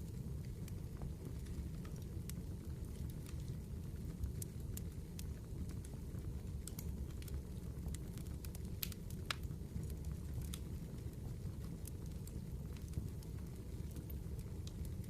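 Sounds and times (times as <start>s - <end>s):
firewood crackling and popping: 0.0s - 15.0s
low fire rumble: 0.0s - 15.0s.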